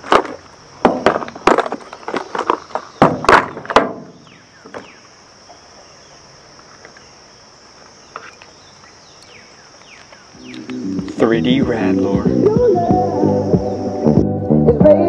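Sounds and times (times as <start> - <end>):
steady high hiss: 0.0 - 15.0
faint chirps: 1.8 - 14.3.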